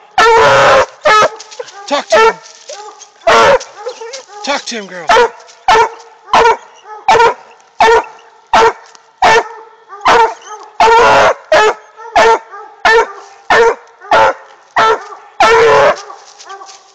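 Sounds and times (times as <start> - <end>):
hound barking: 0.2 - 16.9.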